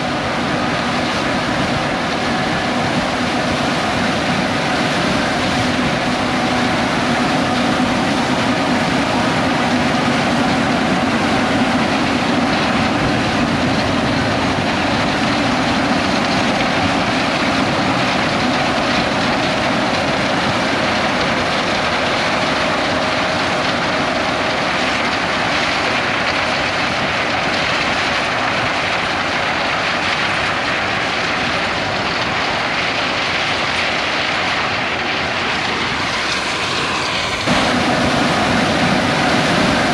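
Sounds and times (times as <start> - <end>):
combine harvester engine and threshing: 0.0 - 39.9.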